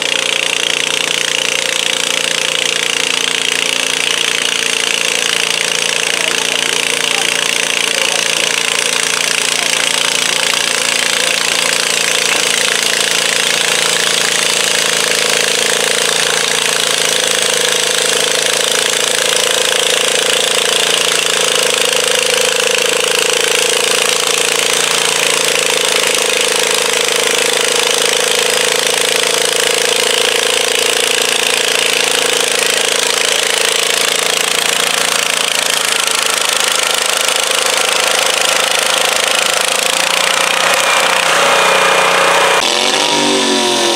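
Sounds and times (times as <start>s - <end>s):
garden tractor engine droning: 0.0s - 43.9s.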